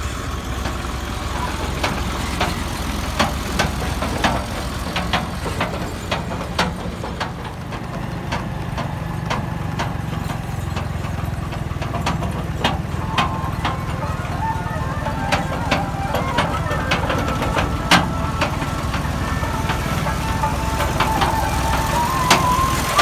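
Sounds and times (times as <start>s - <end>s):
rig rattling clacks: 0.0s - 23.0s
tractor engine running: 0.0s - 23.0s.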